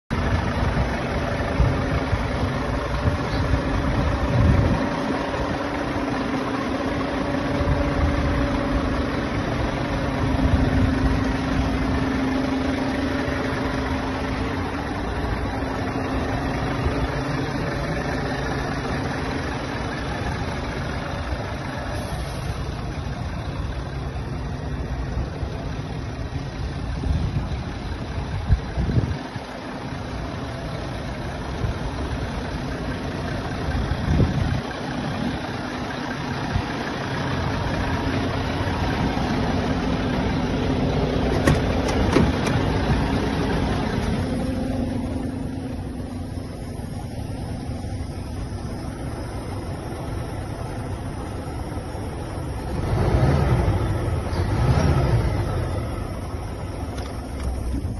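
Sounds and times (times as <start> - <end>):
diesel engine idling: 0.1 - 57.9.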